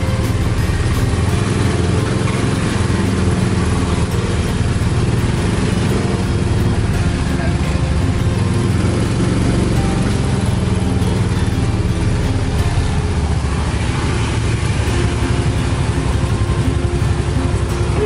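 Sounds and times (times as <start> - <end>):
scooter and car engines: 0.0 - 18.0
small engine running: 0.0 - 18.0.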